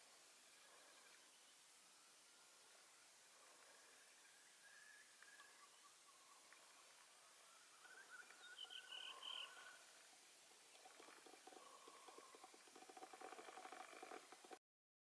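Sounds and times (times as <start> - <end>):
distant animal calls: 2.5 - 14.6.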